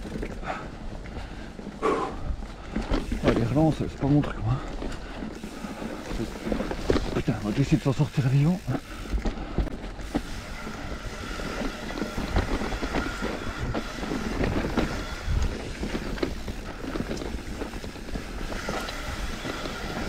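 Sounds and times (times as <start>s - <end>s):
bike tyres rumbling on dirt: 0.0s - 20.0s
bike knocks and rattles: 2.5s - 20.0s.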